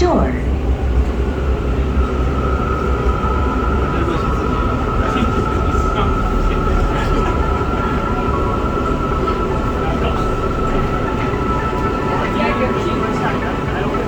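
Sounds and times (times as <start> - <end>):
low rumble: 0.0 - 14.0
train equipment high whine: 0.0 - 14.0.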